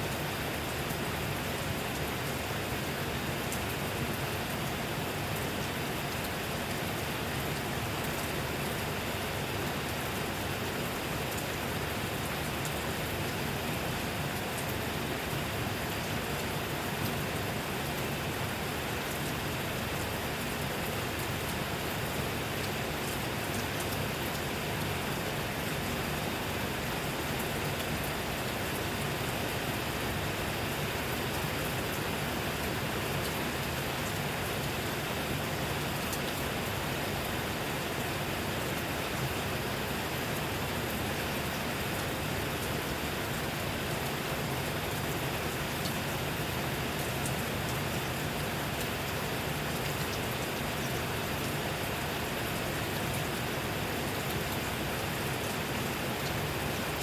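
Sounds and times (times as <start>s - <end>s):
steady rain falling: 0.0s - 57.0s
faint raindrop ticks: 0.1s - 57.0s.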